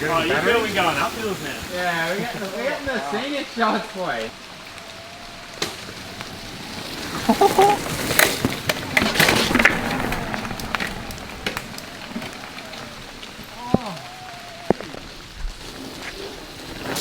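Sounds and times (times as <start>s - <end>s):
bike knocking and rattling: 0.0s - 17.0s
bike tyres hissing on wet dirt: 0.0s - 17.0s.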